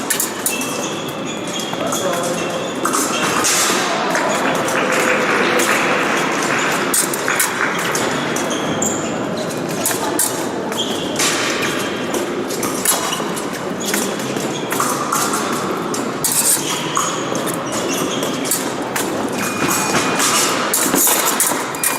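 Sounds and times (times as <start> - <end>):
fencers' footsteps: 0.0 - 21.9
fencing blades clicking and clashing: 0.0 - 21.9
murmur of a large hall: 0.0 - 21.9.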